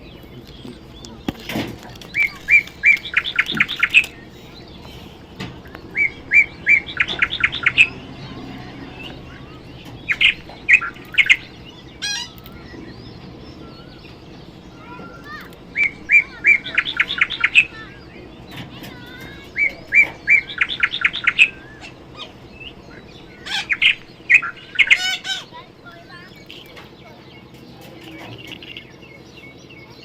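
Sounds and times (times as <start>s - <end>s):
parrot chirping: 0.0s - 27.2s.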